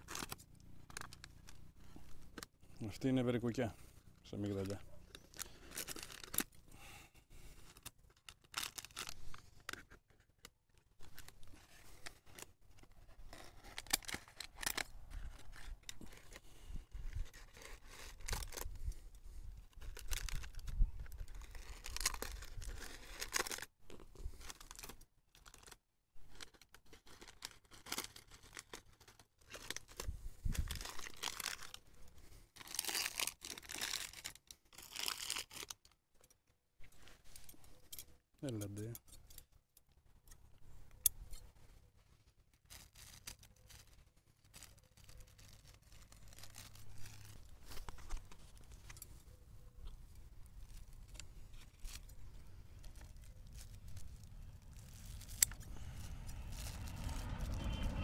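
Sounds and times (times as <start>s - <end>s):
bags crinkling and tearing: 0.0s - 3.0s, 4.4s - 36.0s, 42.0s - 49.3s, 50.2s - 58.0s.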